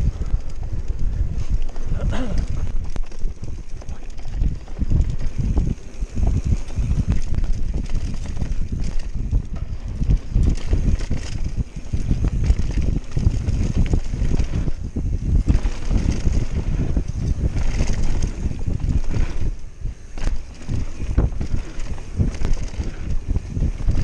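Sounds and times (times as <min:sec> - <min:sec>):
bike rattling and knocking: 0:00.0 - 0:24.0
wind noise on microphone: 0:00.0 - 0:24.0
tyres rumbling on dirt: 0:01.6 - 0:24.0.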